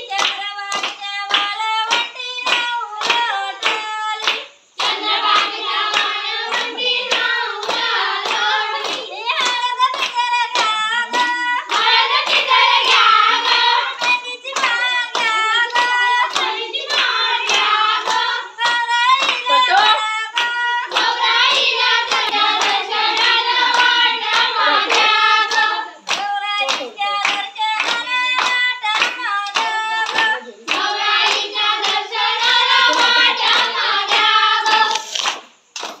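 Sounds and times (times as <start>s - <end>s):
women singing together: 0.0s - 35.6s
hand claps: 0.0s - 36.0s.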